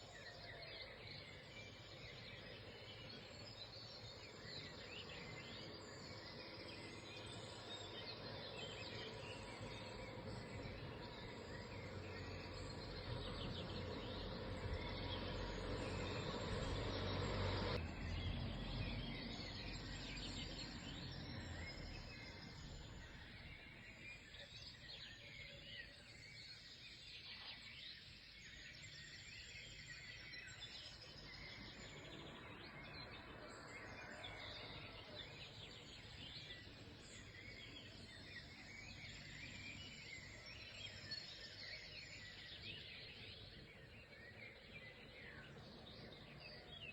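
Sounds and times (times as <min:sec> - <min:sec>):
small birds chirping and singing: 0:00.0 - 0:46.9.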